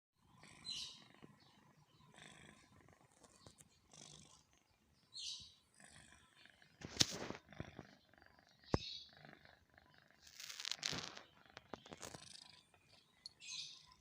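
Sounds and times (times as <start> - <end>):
cat snoring: 0.2 - 4.7, 5.6 - 13.6.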